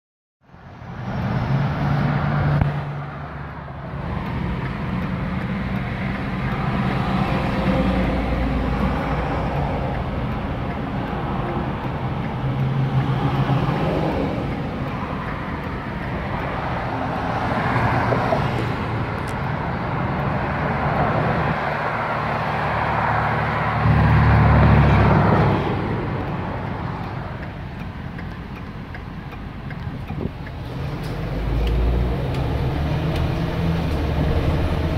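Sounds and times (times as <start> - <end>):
passing traffic: 0.4 - 34.9
road noise: 0.4 - 34.9
truck engine hum: 0.4 - 34.9.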